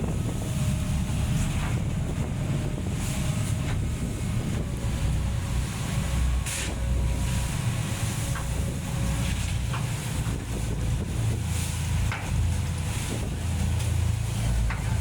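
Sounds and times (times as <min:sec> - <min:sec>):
boat engine rumble and hum: 0:00.0 - 0:15.0
wind buffeting microphone: 0:00.0 - 0:15.0.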